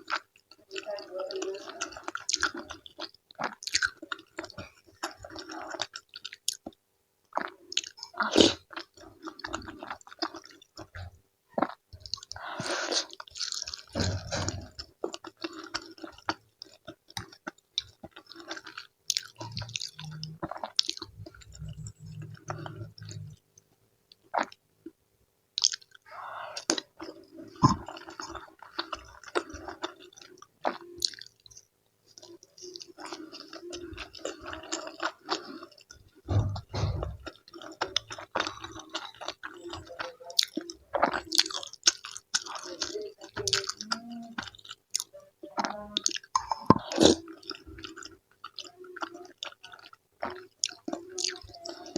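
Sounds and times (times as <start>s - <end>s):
close-miked wet chewing: 0.0s - 24.6s, 25.6s - 51.9s
faint steady hum: 0.0s - 51.9s.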